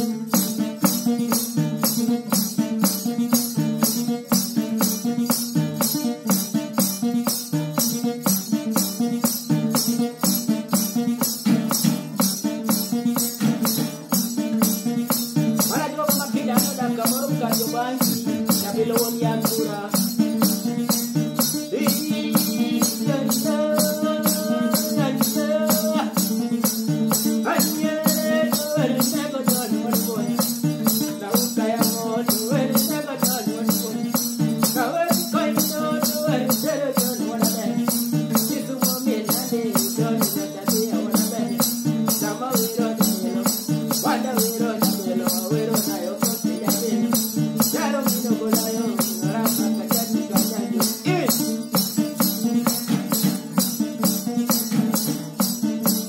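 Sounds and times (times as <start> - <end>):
fast rattling foot beat: 0.0 - 56.0.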